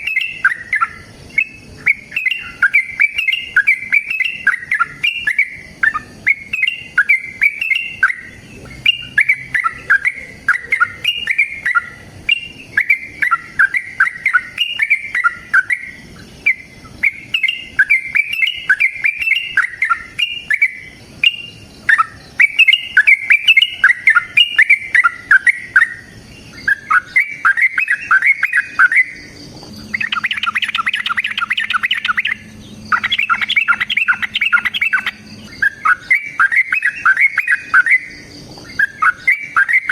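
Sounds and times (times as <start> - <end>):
bird singing chirping trills: 0.0 - 39.9.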